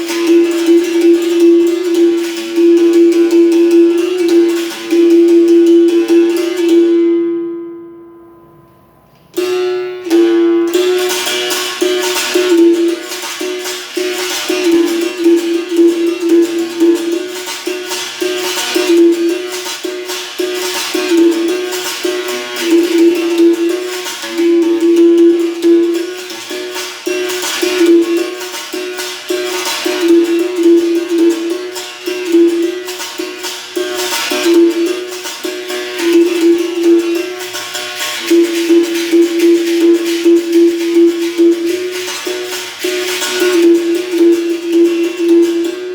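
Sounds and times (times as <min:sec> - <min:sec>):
shaker rattling: 0:00.0 - 0:06.8, 0:11.0 - 0:45.9.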